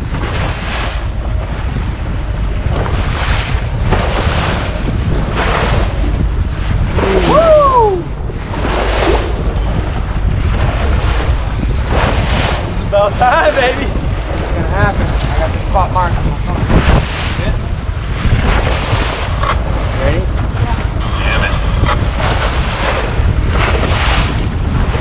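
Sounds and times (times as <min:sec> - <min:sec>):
steady low rumble: 0:00.0 - 0:25.0
water rushing around boat: 0:00.0 - 0:25.0
wind buffeting microphone: 0:00.0 - 0:25.0.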